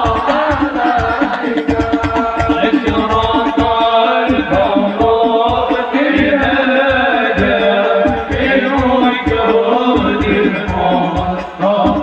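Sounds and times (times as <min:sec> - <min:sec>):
devotional singing over loudspeakers: 0:00.0 - 0:12.0
steady drum beat: 0:00.0 - 0:12.0.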